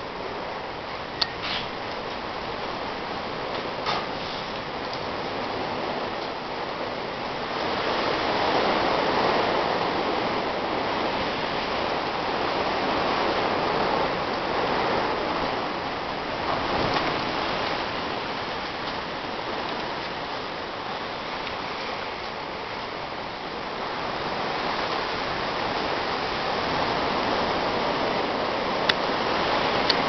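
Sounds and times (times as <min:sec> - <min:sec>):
wind blowing in gusts: 0:00.0 - 0:30.0.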